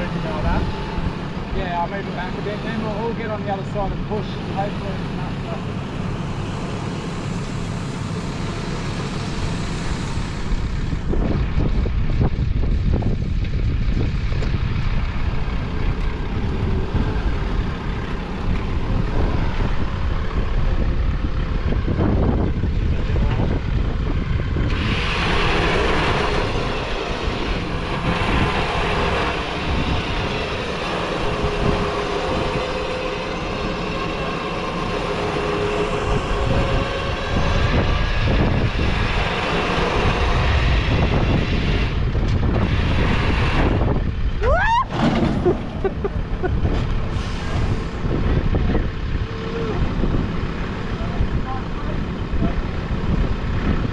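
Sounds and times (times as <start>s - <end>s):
vehicle engine working hard: 0.0s - 53.9s.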